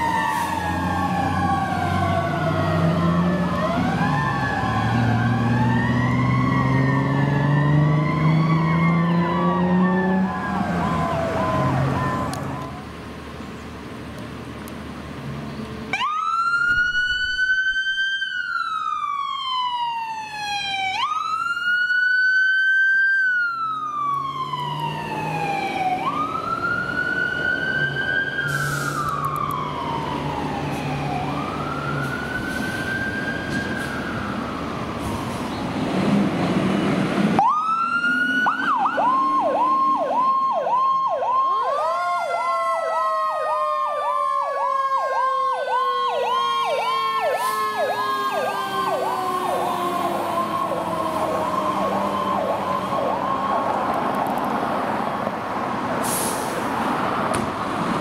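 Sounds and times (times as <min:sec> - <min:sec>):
siren yelping: 0:00.0 - 0:12.8, 0:15.9 - 0:34.9, 0:37.4 - 0:54.2
siren wailing: 0:00.0 - 0:12.9, 0:15.9 - 0:35.6, 0:36.8 - 0:55.1.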